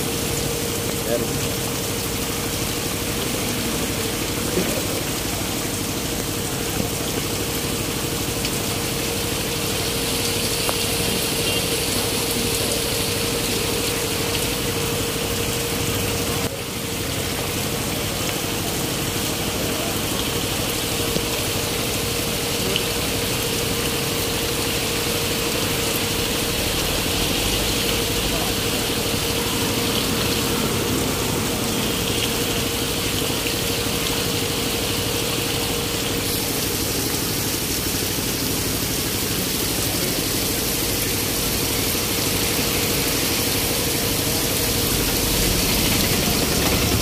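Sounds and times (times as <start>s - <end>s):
heavy rain pouring on road: 0.0s - 47.0s.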